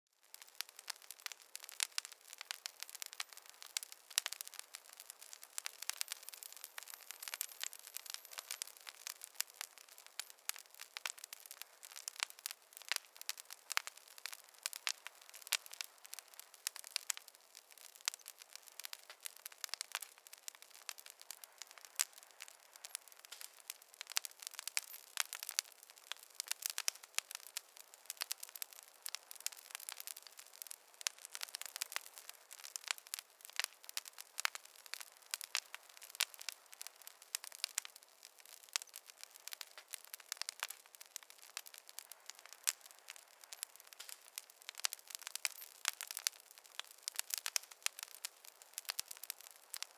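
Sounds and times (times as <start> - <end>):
campfire crackling and popping: 0.2 - 49.9
faint hiss: 0.2 - 49.9.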